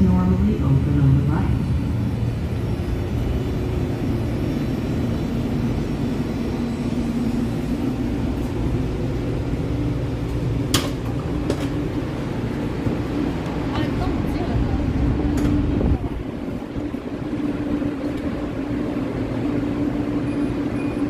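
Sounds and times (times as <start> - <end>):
light-rail car humming: 0.0 - 21.0.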